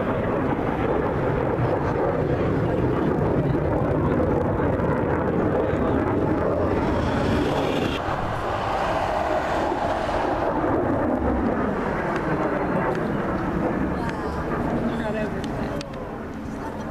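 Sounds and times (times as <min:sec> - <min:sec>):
airplane engine drone: 0:00.0 - 0:16.9.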